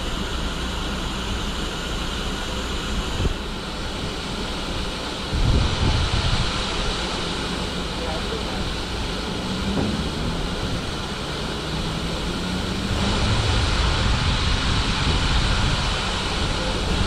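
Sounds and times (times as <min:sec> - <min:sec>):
steam locomotive hiss and rumble: 0:00.0 - 0:17.0.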